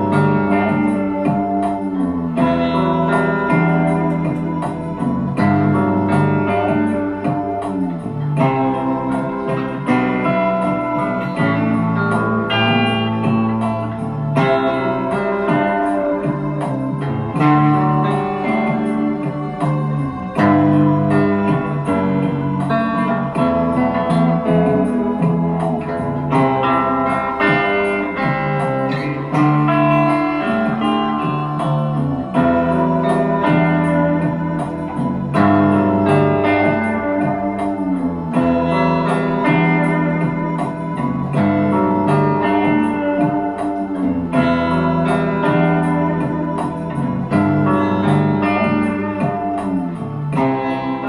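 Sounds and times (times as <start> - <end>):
guitar chords and bass: 0.0 - 51.0
sliding guitar line: 0.0 - 51.0.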